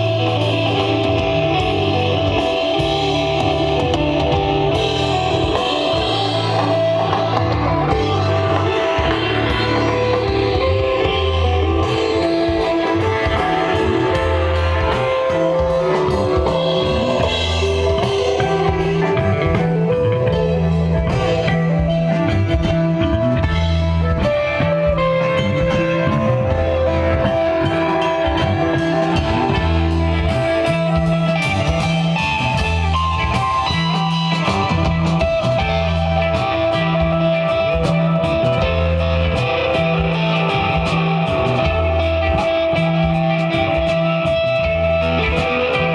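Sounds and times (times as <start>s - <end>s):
bass guitar: 0.0s - 45.9s
drum kit with cymbals: 0.0s - 45.9s
electric guitar: 0.0s - 45.9s.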